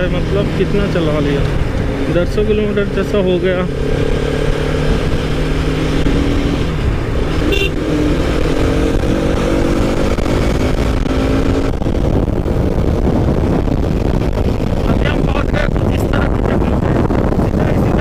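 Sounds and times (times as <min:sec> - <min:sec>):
low wind rumble: 0:00.0 - 0:18.0
motorcycle engine running: 0:00.0 - 0:18.0.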